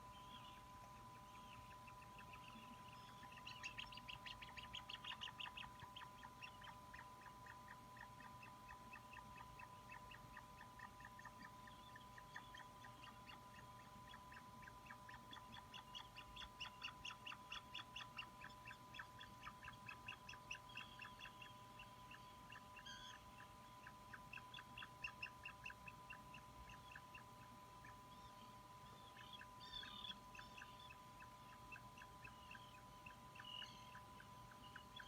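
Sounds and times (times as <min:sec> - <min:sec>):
faint electrical tone: 0:00.0 - 0:35.0
chick peeping: 0:00.2 - 0:28.3, 0:28.9 - 0:35.0.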